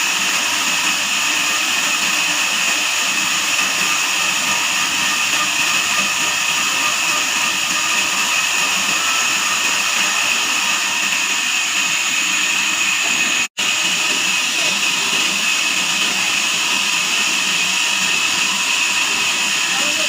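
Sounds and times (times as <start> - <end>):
band sawmill running: 0.0 - 20.0.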